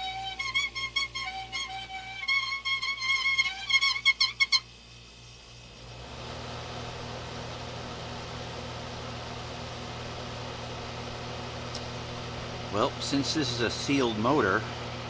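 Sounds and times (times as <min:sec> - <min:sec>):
dehumidifier fan motor humming: 0:00.0 - 0:15.0.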